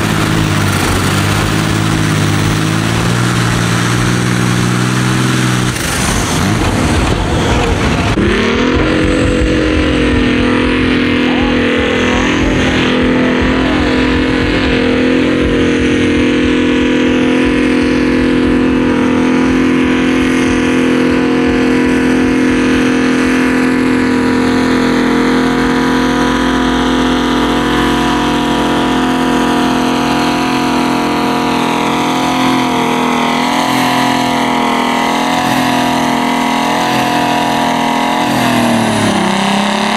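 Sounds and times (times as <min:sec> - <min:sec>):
tractor diesel engine at full revs: 0:00.0 - 0:39.9.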